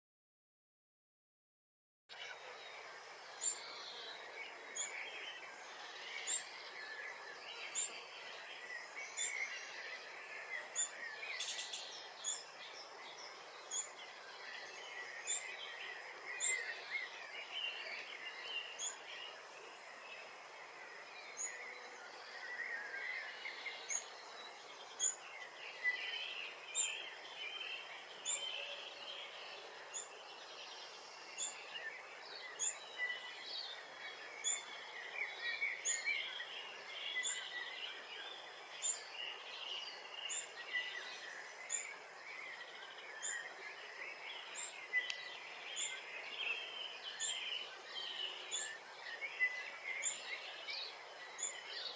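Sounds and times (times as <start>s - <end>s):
background birdsong: 2.1s - 51.9s.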